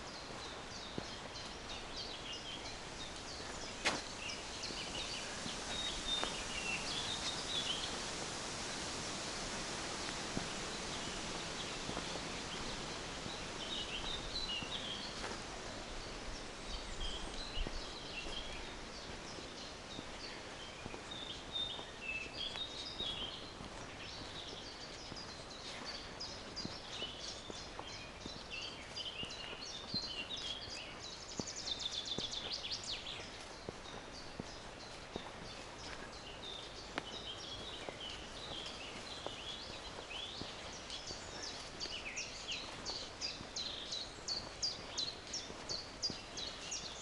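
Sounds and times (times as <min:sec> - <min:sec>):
outdoor hiss: 0:00.0 - 0:47.0
soft footsteps: 0:00.0 - 0:47.0
songbirds chirping: 0:00.0 - 0:47.0.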